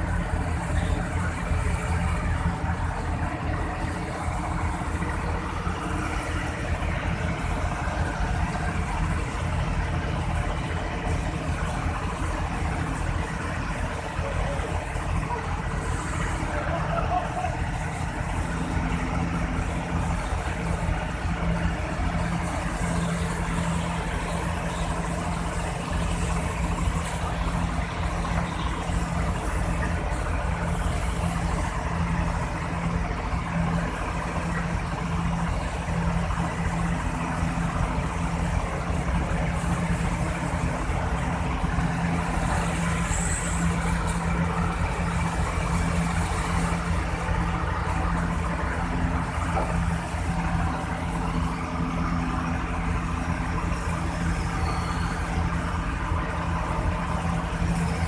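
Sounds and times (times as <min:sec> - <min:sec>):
excavator diesel engine droning: 0:00.0 - 0:58.0.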